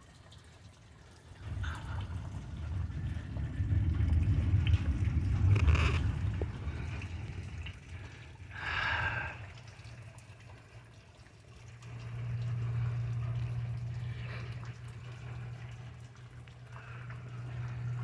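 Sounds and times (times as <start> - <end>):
rain dripping and trickling: 0.0 - 18.0
low rumble: 1.4 - 10.2, 11.7 - 18.0.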